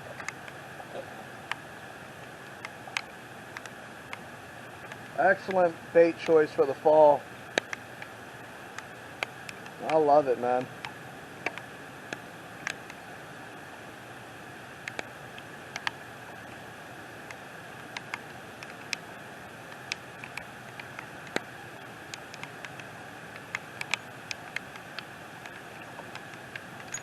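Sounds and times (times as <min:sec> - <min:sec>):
rain hiss: 0:00.0 - 0:27.0.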